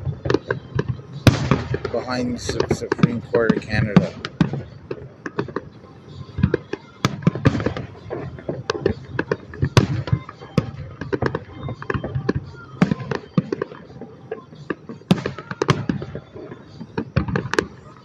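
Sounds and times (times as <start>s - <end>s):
fireworks banging and crackling: 0.0s - 18.0s.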